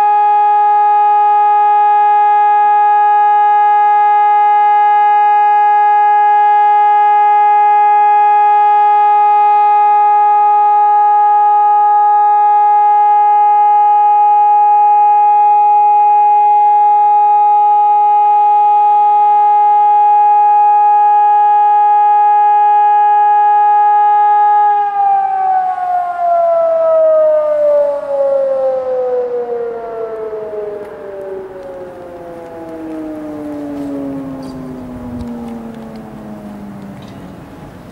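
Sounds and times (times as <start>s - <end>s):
civil defence siren steady tone: 0.0s - 37.9s.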